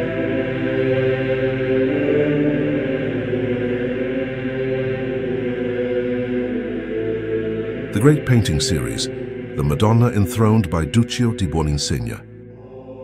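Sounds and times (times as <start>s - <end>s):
voices singing slow chant: 0.0s - 13.0s.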